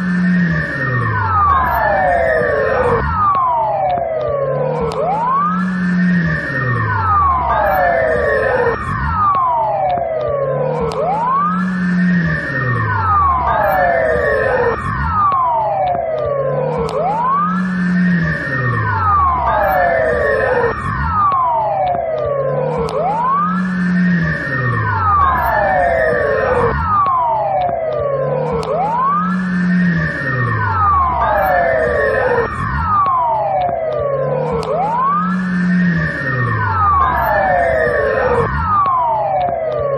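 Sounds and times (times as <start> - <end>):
police car siren sweeping: 0.0 - 39.9.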